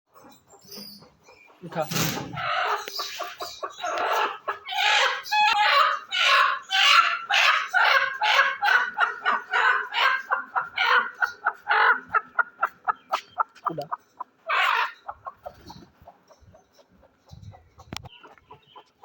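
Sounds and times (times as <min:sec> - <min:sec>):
chicken clucking and squawking: 0:00.1 - 0:19.0.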